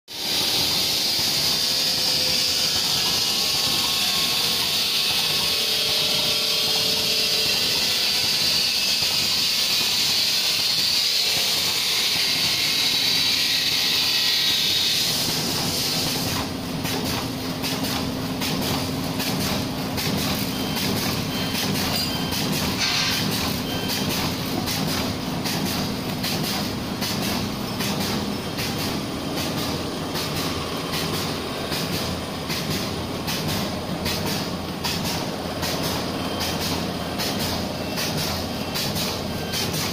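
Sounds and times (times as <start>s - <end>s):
machine hiss: 0.1s - 39.9s
machine mechanism clacking: 7.4s - 39.9s.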